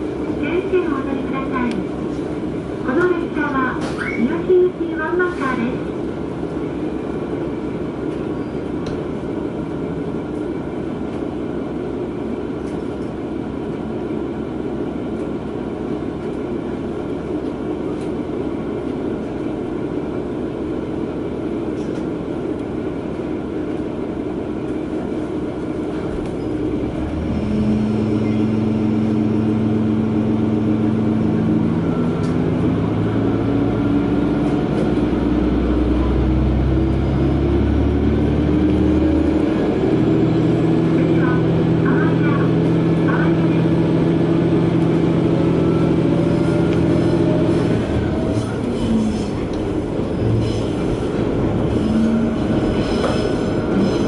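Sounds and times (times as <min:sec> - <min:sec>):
diesel railcar engine drone: 0:00.0 - 0:54.0.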